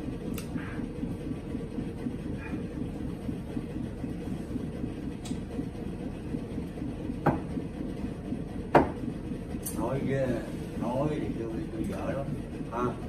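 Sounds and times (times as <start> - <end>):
low mechanical rumbling hum: 0.0 - 13.0.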